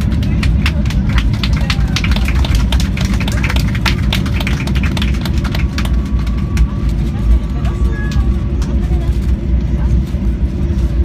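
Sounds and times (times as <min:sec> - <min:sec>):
deep aircraft rumble: 0:00.0 - 0:11.0.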